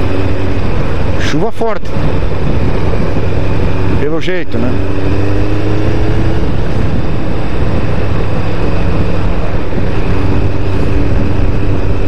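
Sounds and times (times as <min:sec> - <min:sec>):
constant rushing noise: 0:00.0 - 0:12.0
motorcycle engine running: 0:00.0 - 0:12.0.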